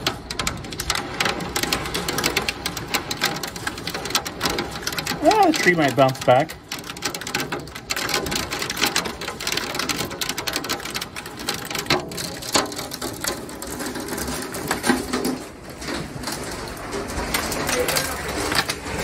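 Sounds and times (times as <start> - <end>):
hail clattering on cars and roofs: 0.0 - 19.0.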